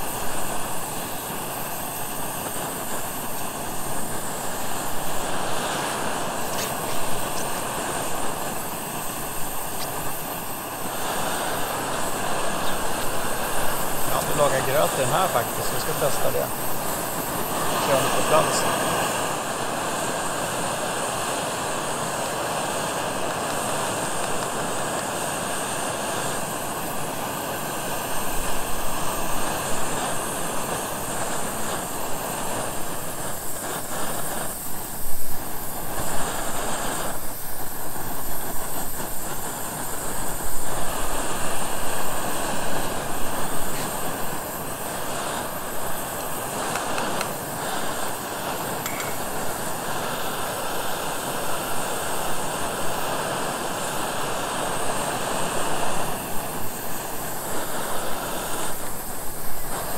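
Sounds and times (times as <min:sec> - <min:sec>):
gas burner flame hissing: 0:00.0 - 0:59.9.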